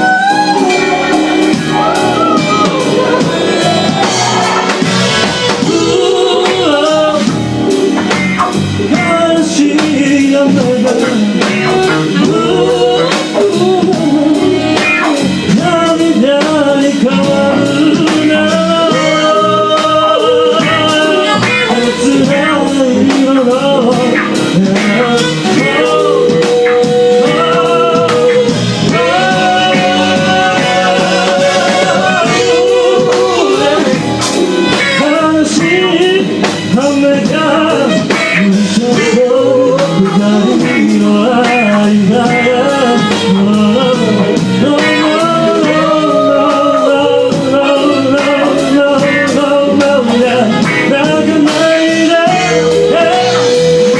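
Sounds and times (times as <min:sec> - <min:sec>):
live band playing: 0:00.0 - 0:53.9
person singing: 0:00.0 - 0:53.9.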